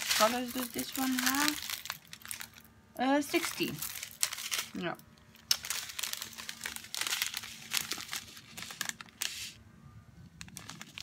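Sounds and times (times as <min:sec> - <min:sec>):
plastic bags crinkling: 0:00.0 - 0:09.6, 0:10.3 - 0:11.0.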